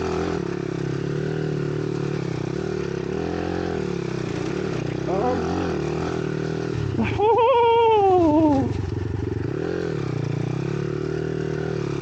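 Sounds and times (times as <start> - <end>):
small motorbike engine revving: 0.0 - 12.0.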